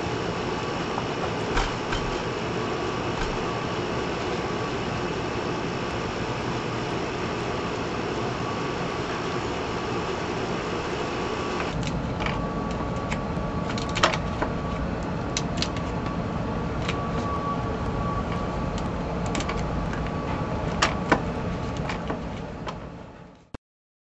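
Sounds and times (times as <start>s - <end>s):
steady background hum: 0.0s - 23.5s.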